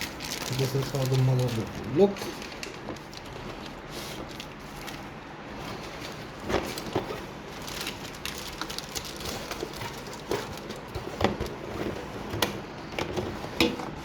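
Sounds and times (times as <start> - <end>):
packaging rustling: 0.0 - 13.4.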